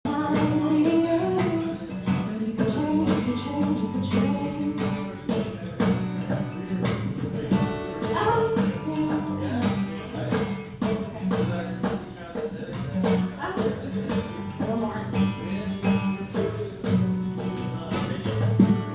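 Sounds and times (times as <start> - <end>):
acoustic guitar strumming chords: 0.1 - 18.9
steady drum beat: 0.1 - 18.9.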